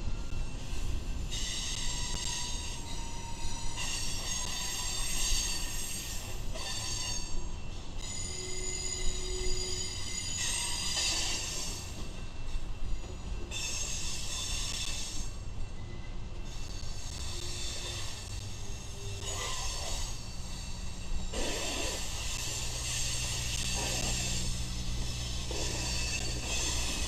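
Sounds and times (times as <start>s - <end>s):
freight train rumbling past: 0.0s - 27.0s
train wheels squealing: 0.0s - 27.0s.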